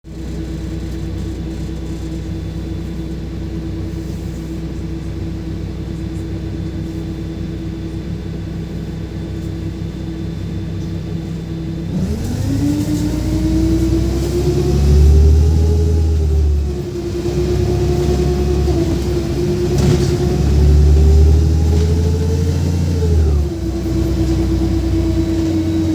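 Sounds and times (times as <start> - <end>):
bus accelerating: 0.1 - 25.9
bus engine idling: 0.1 - 25.9
drivetrain whine: 0.1 - 25.9.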